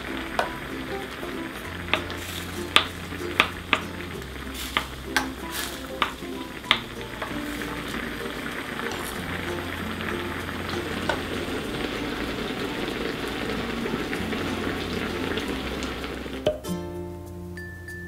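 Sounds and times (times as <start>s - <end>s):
food sizzling in a pan: 0.0s - 16.6s.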